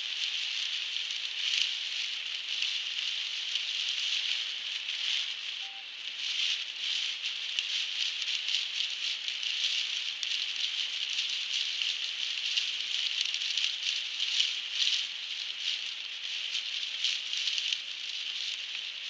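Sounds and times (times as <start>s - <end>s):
heavy rain on car roof: 0.0s - 19.0s.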